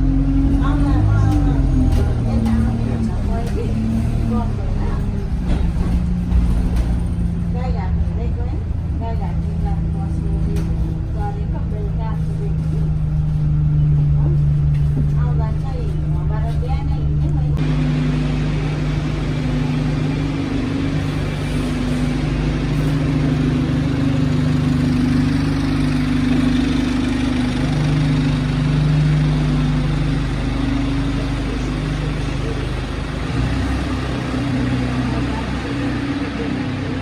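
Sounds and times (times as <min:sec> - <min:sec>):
bus diesel engine droning: 0:00.0 - 0:37.0
road noise: 0:00.0 - 0:37.0.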